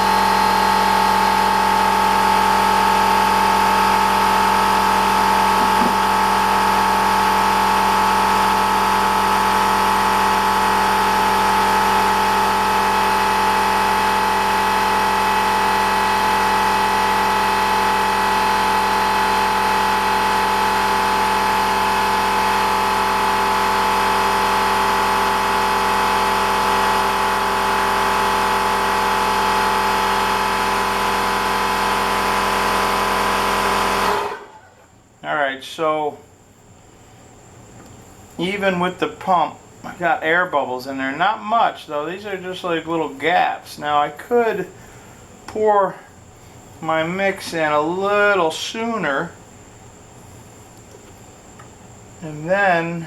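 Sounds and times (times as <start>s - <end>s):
air compressor running: 0.0s - 35.2s, 44.2s - 53.0s.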